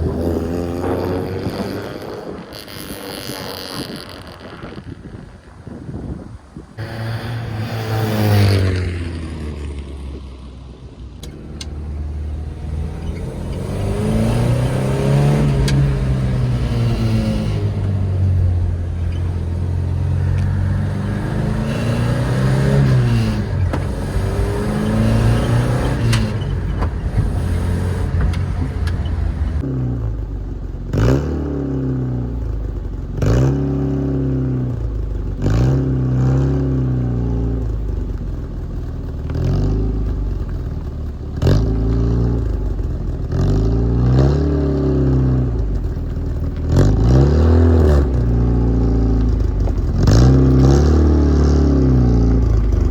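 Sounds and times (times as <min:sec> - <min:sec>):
car engine revving: 0:00.0 - 0:05.6, 0:06.6 - 0:10.6, 0:11.2 - 0:52.9.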